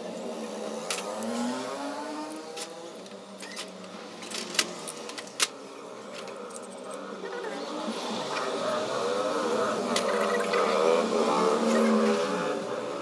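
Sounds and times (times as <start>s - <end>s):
mechanical whirring hum: 0.0s - 13.0s.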